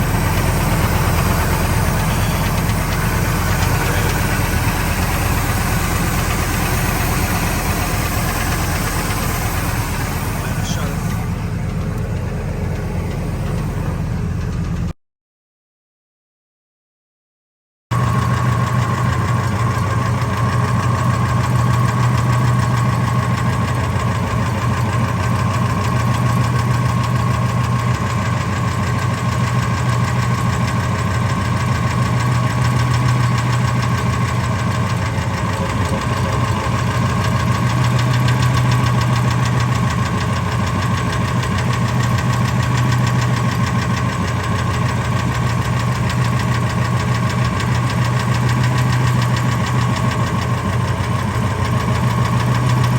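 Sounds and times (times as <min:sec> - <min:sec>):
engine running with fast ticking: 0:00.0 - 0:14.9, 0:17.9 - 0:52.9.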